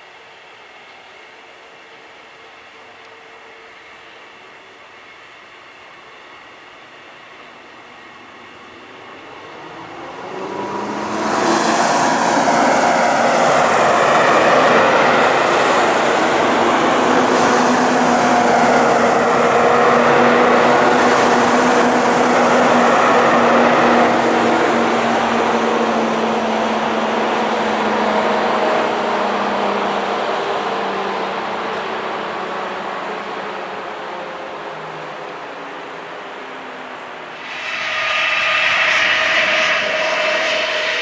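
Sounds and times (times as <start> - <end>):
freight train passing: 0.0 - 41.0.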